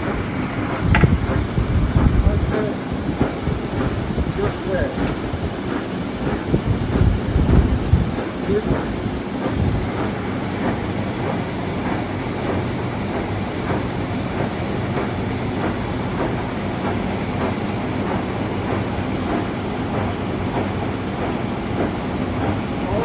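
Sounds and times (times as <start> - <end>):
lathe running: 0.0 - 23.0.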